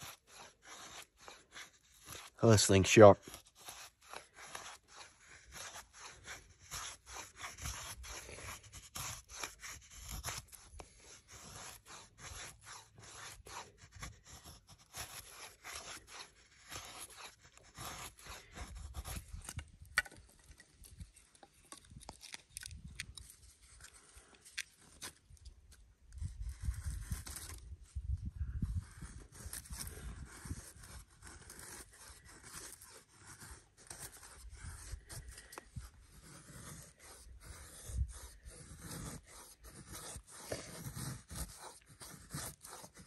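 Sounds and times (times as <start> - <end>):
knife shaving wood: 0.0 - 27.8, 28.5 - 43.0.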